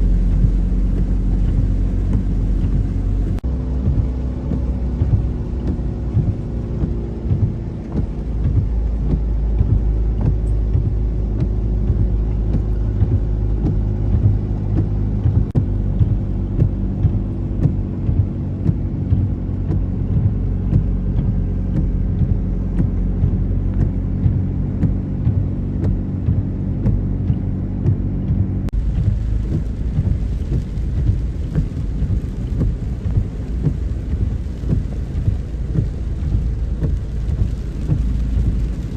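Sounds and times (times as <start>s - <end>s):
heavy rain: 0.0s - 27.6s, 28.3s - 38.9s
low rumble: 0.0s - 38.9s
vehicle engine running: 0.0s - 38.9s.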